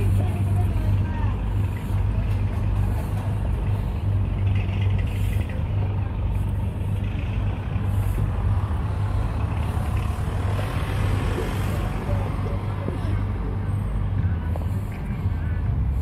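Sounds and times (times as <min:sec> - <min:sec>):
fairground machinery drone: 0:00.0 - 0:16.0
outdoor noise: 0:00.0 - 0:16.0.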